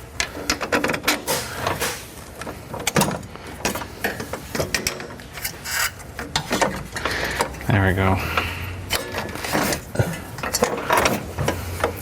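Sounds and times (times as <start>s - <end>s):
metal suspension parts clunking: 0.0s - 12.0s.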